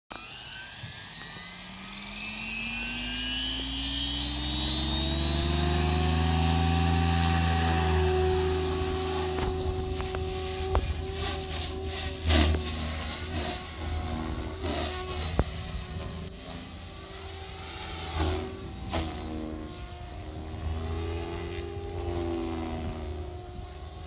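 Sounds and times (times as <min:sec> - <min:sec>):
model helicopter rotor whine: 0:00.1 - 0:24.0.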